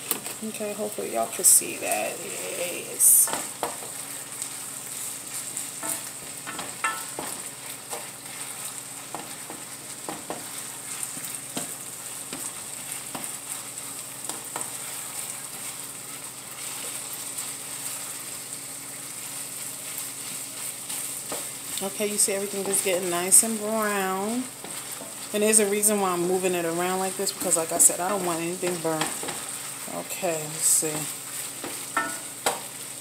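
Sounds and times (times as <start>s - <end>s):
sausage sizzling in a frying pan: 0.0s - 33.0s
wooden spoon scraping a pan: 1.4s - 33.0s.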